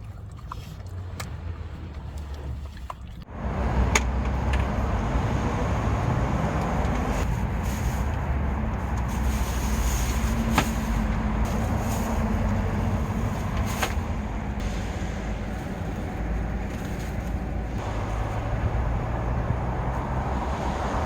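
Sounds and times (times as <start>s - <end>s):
wind buffeting a car: 0.9s - 21.0s.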